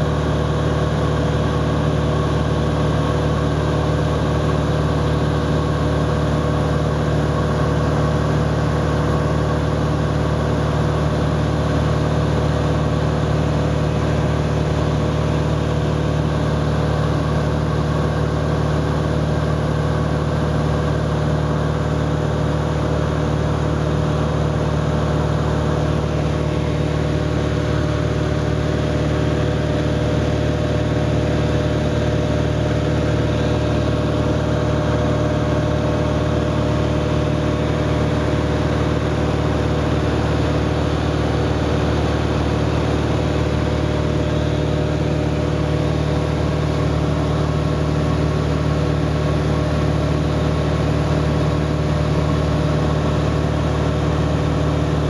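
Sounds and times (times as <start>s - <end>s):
propeller airplane engine droning: 0.0s - 55.0s.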